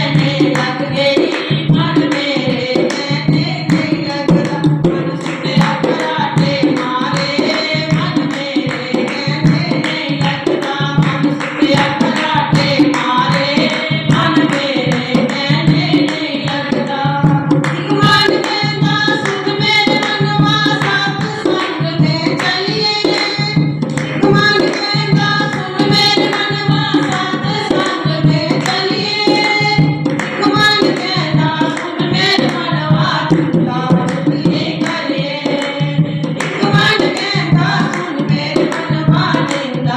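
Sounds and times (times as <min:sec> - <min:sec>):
hand drum rhythm: 0:00.0 - 0:39.9
person singing devotional song: 0:00.0 - 0:39.9.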